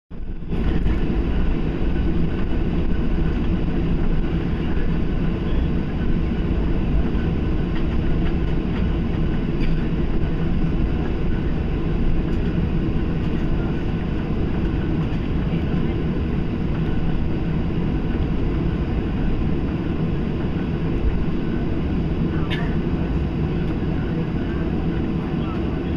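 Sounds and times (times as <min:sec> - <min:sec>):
aircraft cabin engine rumble: 0:00.1 - 0:25.9.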